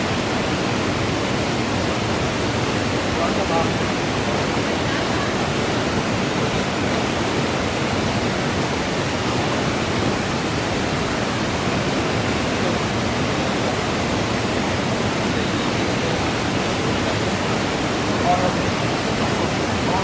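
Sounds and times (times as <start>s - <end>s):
stream rushing: 0.0s - 20.0s.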